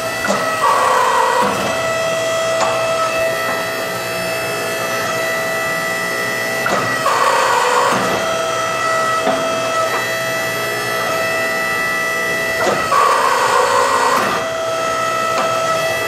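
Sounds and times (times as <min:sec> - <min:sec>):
hydraulic press pump whine: 0:00.0 - 0:16.0.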